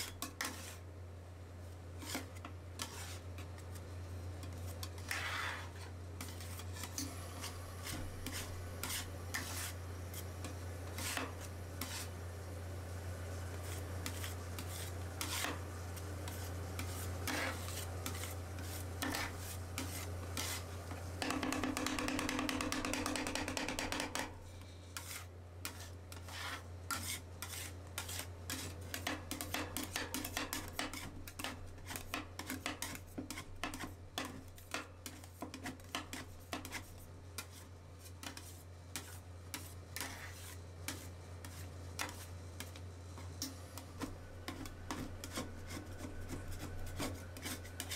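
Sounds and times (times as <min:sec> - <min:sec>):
metal spatulas scraping a pan: 0:00.0 - 0:00.8, 0:02.0 - 0:03.8, 0:04.4 - 0:12.2, 0:13.6 - 0:42.8, 0:44.0 - 0:47.9.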